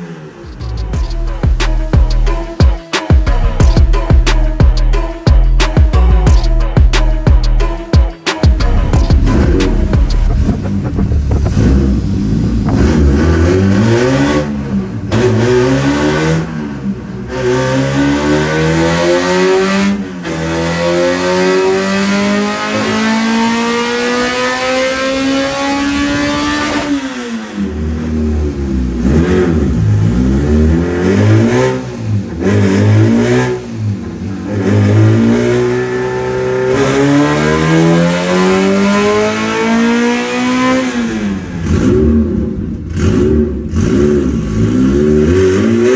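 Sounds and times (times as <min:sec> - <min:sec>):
car engine revving at full throttle: 0:08.6 - 0:45.9.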